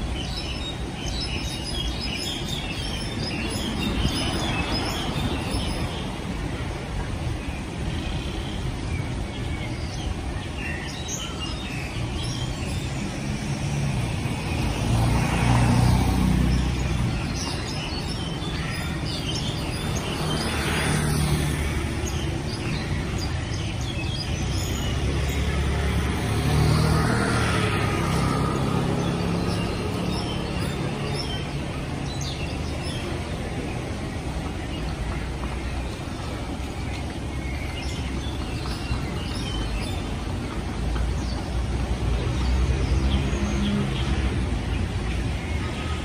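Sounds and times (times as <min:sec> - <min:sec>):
birds chirping and twittering: 0:00.0 - 0:46.0
cars passing: 0:00.0 - 0:46.0.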